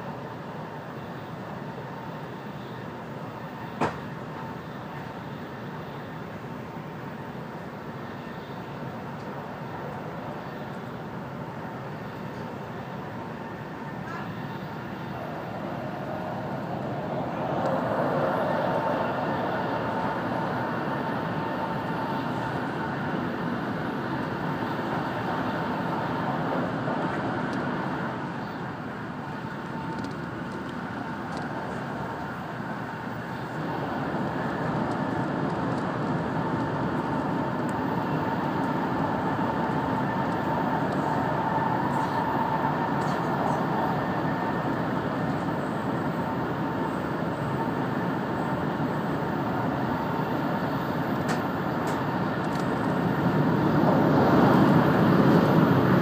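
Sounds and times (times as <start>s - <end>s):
faint steady whine: 0.0s - 56.0s
train rushing in tunnel: 0.0s - 56.0s.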